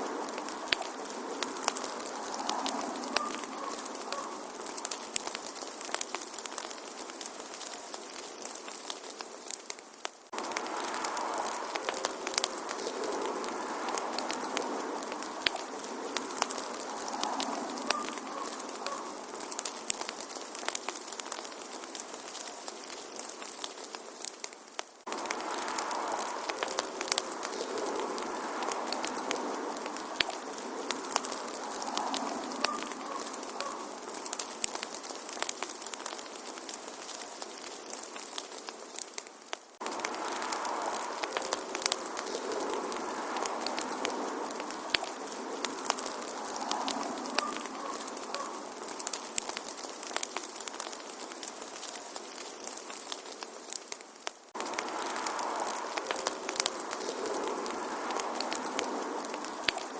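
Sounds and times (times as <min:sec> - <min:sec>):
hiss of flame: 0:00.0 - 0:59.9
wood fire crackling and popping: 0:00.0 - 0:59.9.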